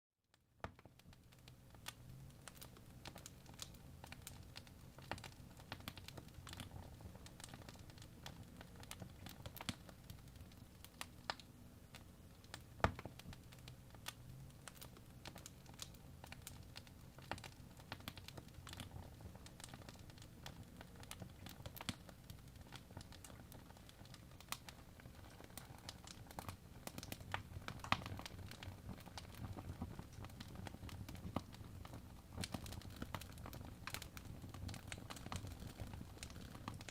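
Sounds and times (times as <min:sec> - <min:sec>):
wood fire crackling and popping: 0:00.4 - 0:36.9.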